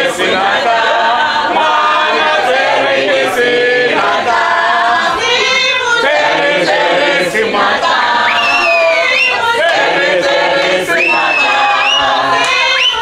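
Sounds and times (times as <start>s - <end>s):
group singing and chanting: 0.0s - 13.0s.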